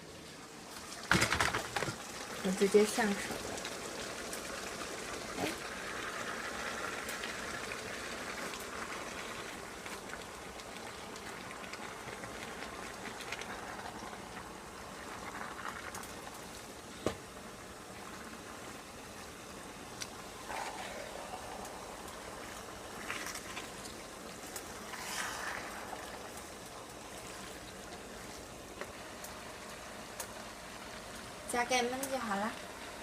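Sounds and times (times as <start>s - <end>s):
sauce sizzling in a pan: 0.2s - 33.0s.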